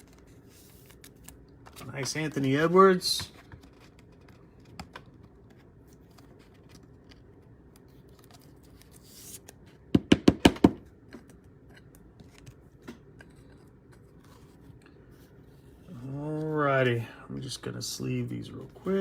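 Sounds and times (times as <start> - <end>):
cards rustling and scraping: 0.0 - 9.9, 11.0 - 16.8.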